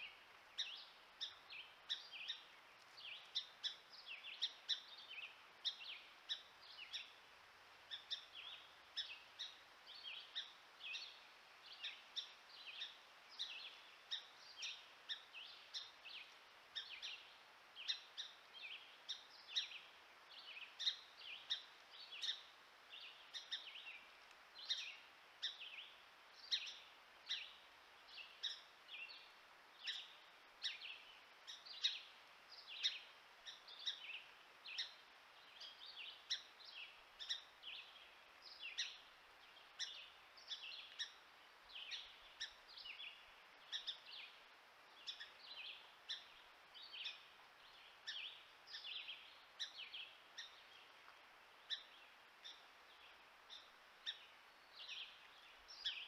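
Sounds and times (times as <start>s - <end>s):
bird chirping: 0.0s - 7.2s, 7.9s - 50.9s, 51.6s - 56.0s.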